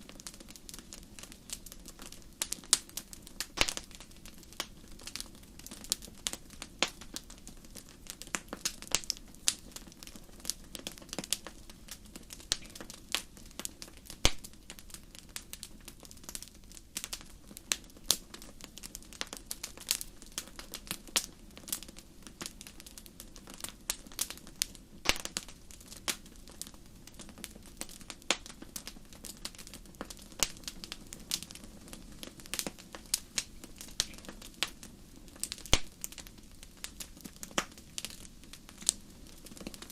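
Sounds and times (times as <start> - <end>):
fire crackling and popping: 0.0 - 39.9
low hiss of flames: 0.0 - 39.9.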